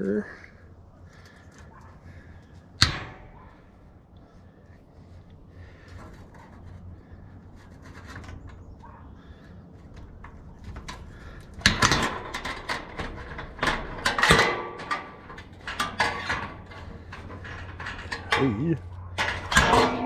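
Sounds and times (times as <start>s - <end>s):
metal clanks and scrapes: 1.9s - 3.8s, 5.6s - 20.0s.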